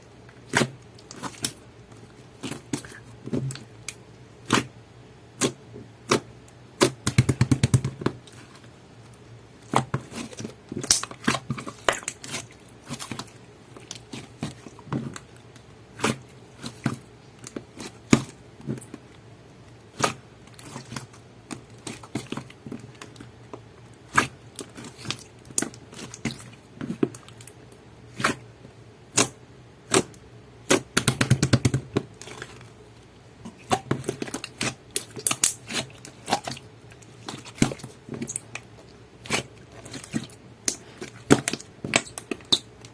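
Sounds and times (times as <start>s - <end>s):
slime squishing crackles: 0.2s - 4.8s, 5.4s - 28.5s, 29.1s - 42.9s.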